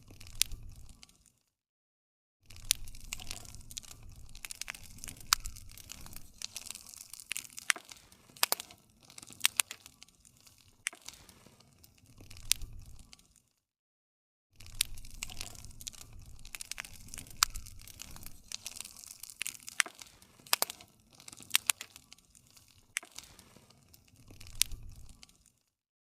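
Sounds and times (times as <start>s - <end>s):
wood fire crackling: 0.0s - 1.4s, 2.5s - 13.4s, 14.6s - 25.7s.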